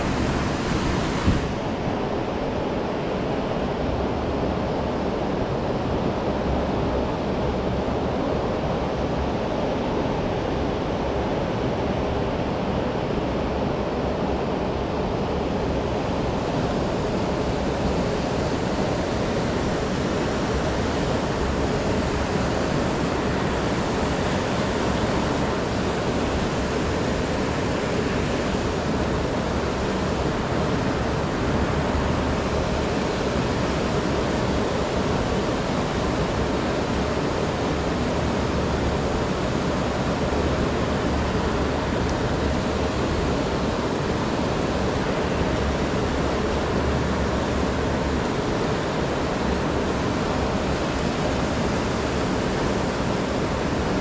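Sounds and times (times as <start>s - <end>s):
fast-flowing river rushing: 0.0s - 54.0s.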